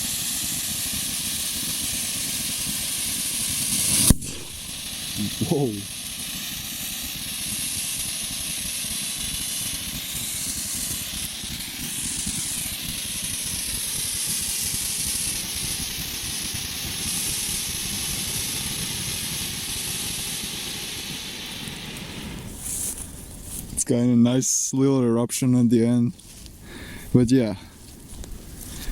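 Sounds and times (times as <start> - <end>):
firework fountain hissing: 0.0 - 24.8, 26.2 - 28.9.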